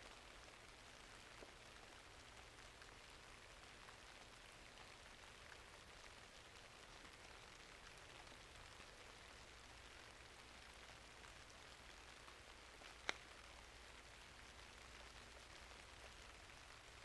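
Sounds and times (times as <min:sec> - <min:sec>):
faint steady rainfall: 0:00.0 - 0:17.0.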